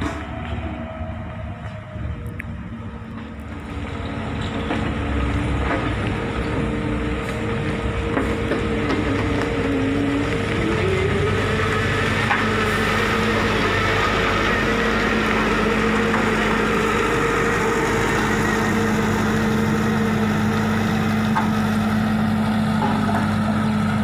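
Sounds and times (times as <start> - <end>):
dump truck diesel engines: 0.0 - 24.0.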